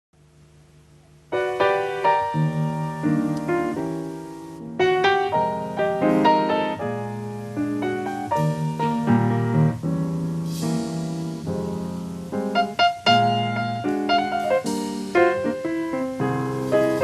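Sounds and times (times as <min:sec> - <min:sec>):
jazz piano chords: 0:00.2 - 0:17.0.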